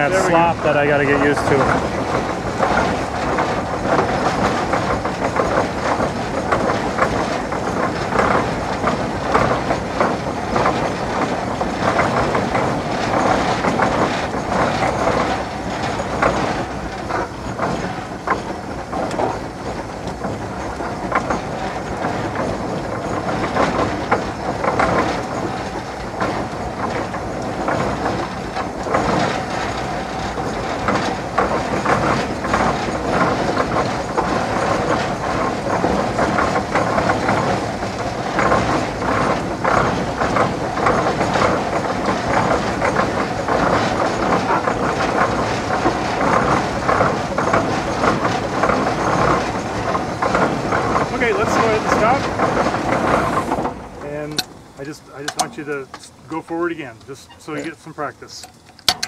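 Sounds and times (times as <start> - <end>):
mechanical clatter of gearing: 0.0 - 59.0
steam traction engine running: 0.0 - 59.0.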